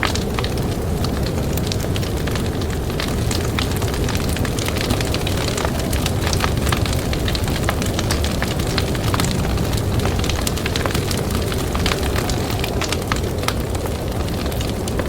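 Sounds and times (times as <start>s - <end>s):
blizzard wind rumbling: 0.0s - 15.0s
campfire crackling and popping: 0.0s - 15.0s.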